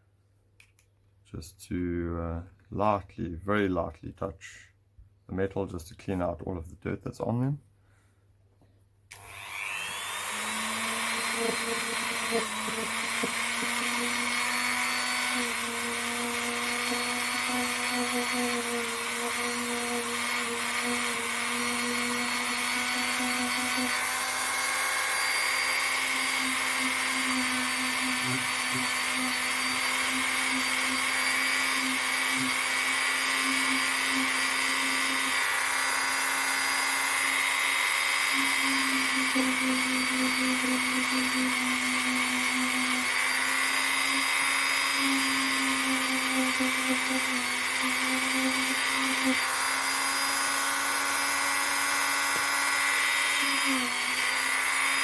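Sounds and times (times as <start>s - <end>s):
wire brush power tool spinning: 9.1s - 55.0s.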